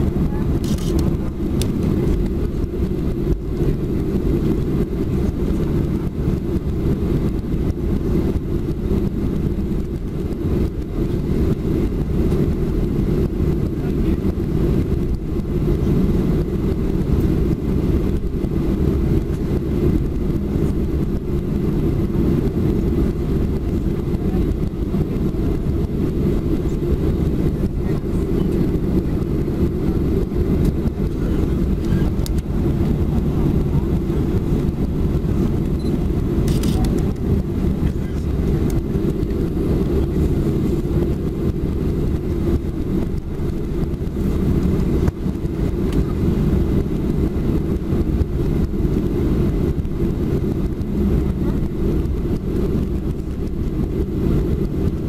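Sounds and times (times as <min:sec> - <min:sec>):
jet engines low rumble: 0:00.0 - 0:55.0.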